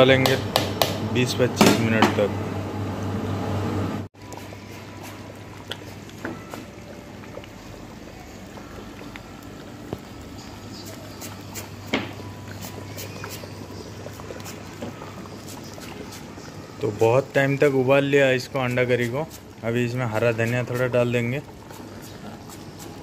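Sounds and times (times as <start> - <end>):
thick gravy bubbling and popping: 4.2 - 23.0.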